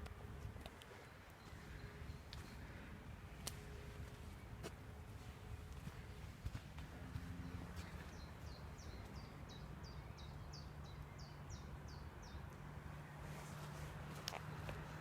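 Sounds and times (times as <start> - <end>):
distant highway traffic hum: 0.0 - 15.0.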